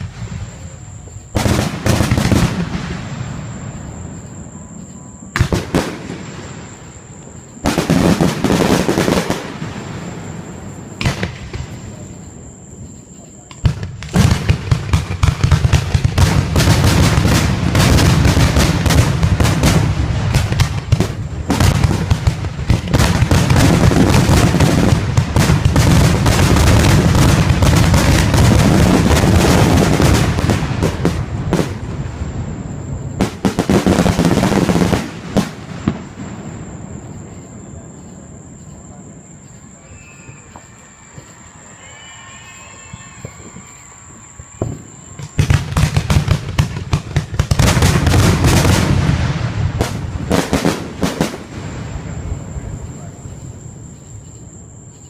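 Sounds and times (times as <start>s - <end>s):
fireworks exploding: 0.0s - 54.6s.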